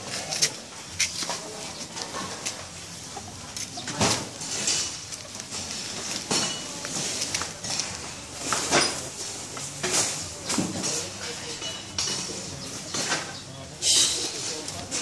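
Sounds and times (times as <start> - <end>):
roosters scuffling on concrete: 0.0 - 15.0.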